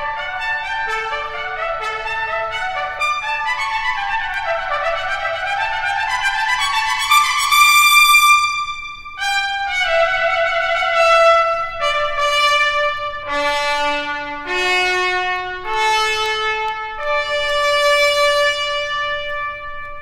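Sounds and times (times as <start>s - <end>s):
trumpet playing long notes: 0.0s - 20.0s.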